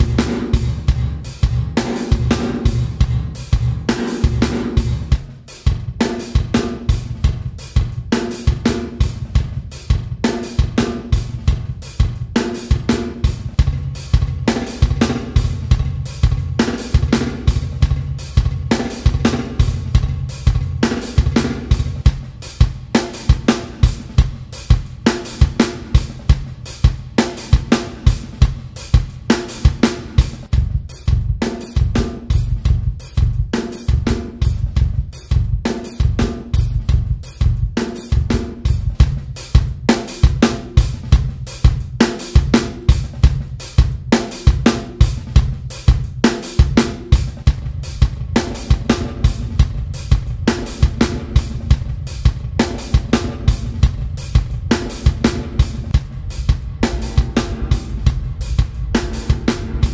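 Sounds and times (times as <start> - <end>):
drum kit beat with reverb: 0.0 - 59.9.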